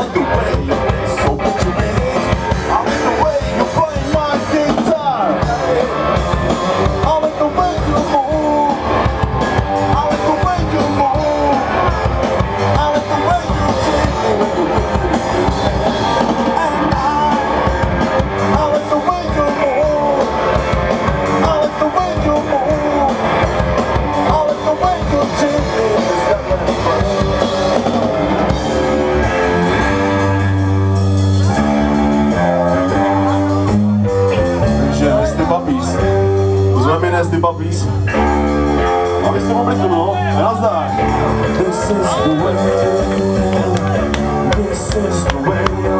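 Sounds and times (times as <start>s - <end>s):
bass guitar: 0.0s - 45.9s
distorted electric guitar: 0.0s - 45.9s
wavering lead guitar line: 0.0s - 45.9s.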